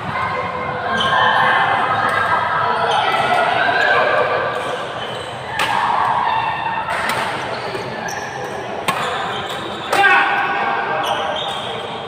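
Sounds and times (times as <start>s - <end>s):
people talking: 0.0s - 12.0s.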